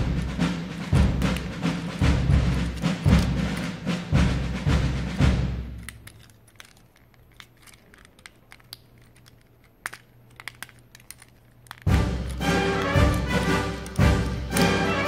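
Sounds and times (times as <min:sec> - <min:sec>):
plastic toy parts clicking: 0:00.2 - 0:03.7, 0:05.2 - 0:15.0.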